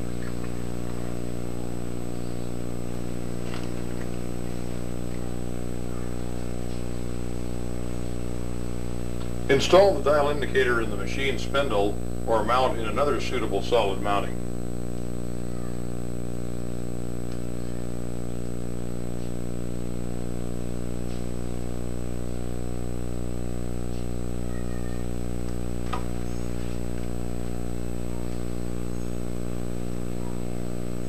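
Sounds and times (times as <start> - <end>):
electrical hum: 0.0 - 31.0
thin high whine: 0.0 - 31.0.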